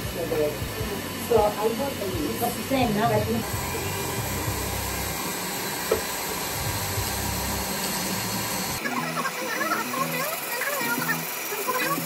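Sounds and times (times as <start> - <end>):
music: 0.0 - 12.0
polishing motor whirring hiss: 0.0 - 12.0.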